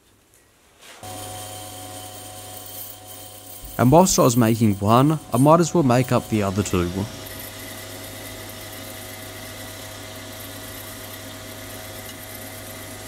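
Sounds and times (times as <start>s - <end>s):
boring bar cutting brass: 1.0s - 13.0s
lathe running with whine: 1.0s - 13.0s.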